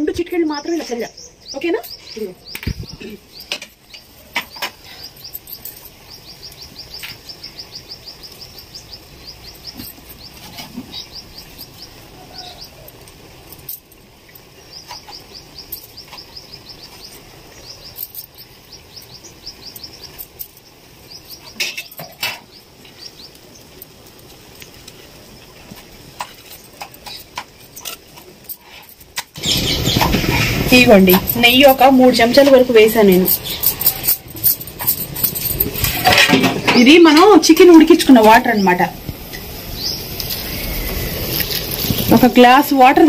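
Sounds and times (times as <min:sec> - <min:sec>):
small bird chirping: 0:00.1 - 0:13.0, 0:14.2 - 0:28.0, 0:29.4 - 0:36.0, 0:39.7 - 0:42.7.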